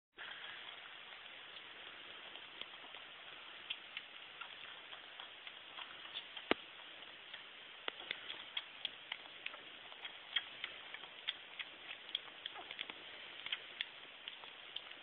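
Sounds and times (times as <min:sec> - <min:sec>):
kitten sucking on milk bottle: 0:00.2 - 0:15.0
steady hiss: 0:00.2 - 0:15.0.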